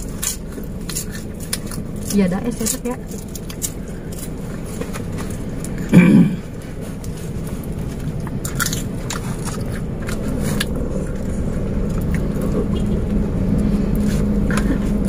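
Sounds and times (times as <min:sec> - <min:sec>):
car cabin rumble: 0:00.0 - 0:15.0
chewing clicks and crunches: 0:00.0 - 0:15.0
steady hum: 0:00.0 - 0:15.0.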